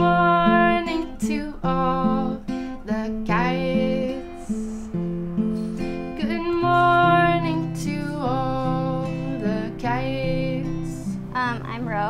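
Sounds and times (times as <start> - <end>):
person singing: 0.0 - 5.0, 5.6 - 11.2
acoustic guitar: 0.0 - 12.0.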